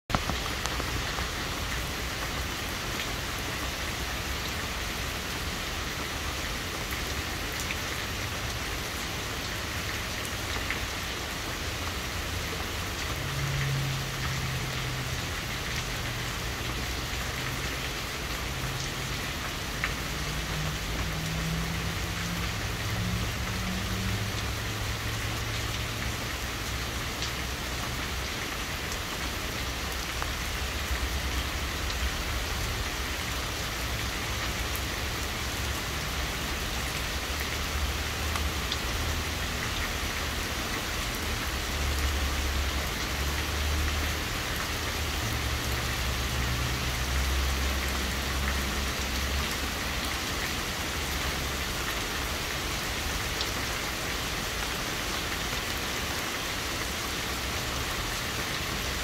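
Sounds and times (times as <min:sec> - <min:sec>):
heavy rain on pavement: 0:00.1 - 0:59.0.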